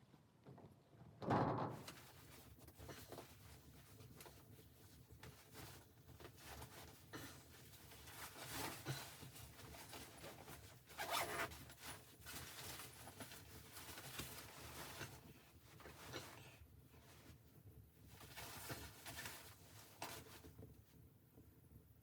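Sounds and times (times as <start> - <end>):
faint rustling and scraping: 0.1 - 21.5.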